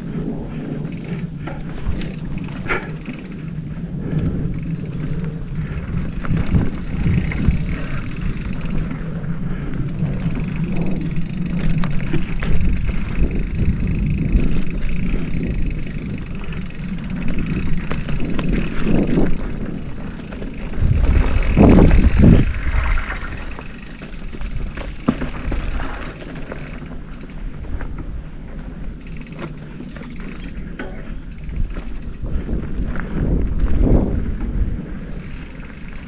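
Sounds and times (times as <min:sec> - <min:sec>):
wind on microphone: 0:00.0 - 0:25.8, 0:30.4 - 0:36.0
bike tyre rumble on dirt trail: 0:00.0 - 0:36.0.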